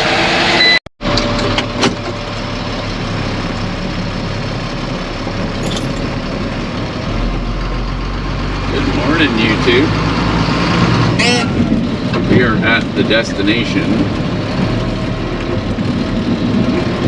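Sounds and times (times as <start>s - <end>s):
heavy diesel engine running: 1.1s - 17.0s.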